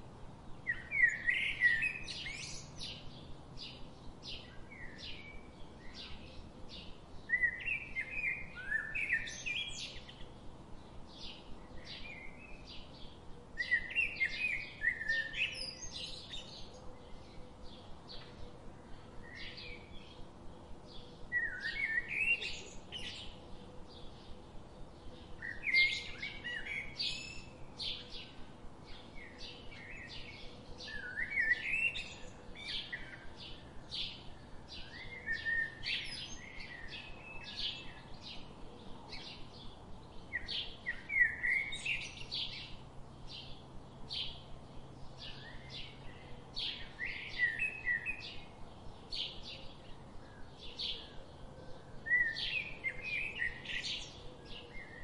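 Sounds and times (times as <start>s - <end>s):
rising bird song phrases: 0.0s - 55.0s
songbirds chirping: 0.0s - 55.0s.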